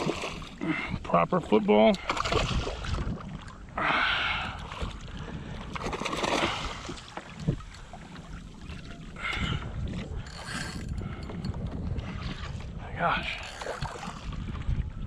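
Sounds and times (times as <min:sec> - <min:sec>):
water sloshing and splashing: 0:00.0 - 0:15.0
wind on microphone: 0:02.0 - 0:15.0.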